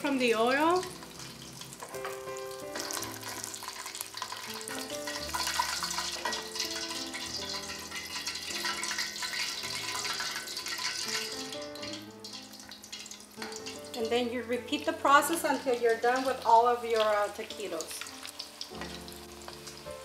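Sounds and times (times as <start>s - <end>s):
background music with held notes: 0.0s - 20.0s
food sizzling in hot oil: 0.0s - 20.0s.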